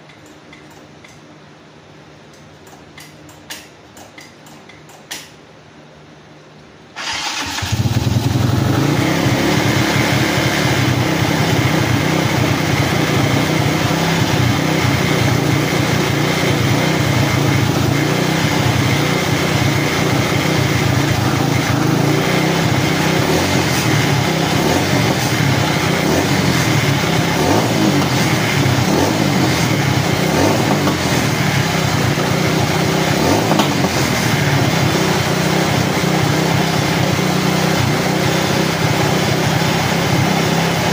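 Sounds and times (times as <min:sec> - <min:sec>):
atv engine running: 0:07.0 - 0:40.9.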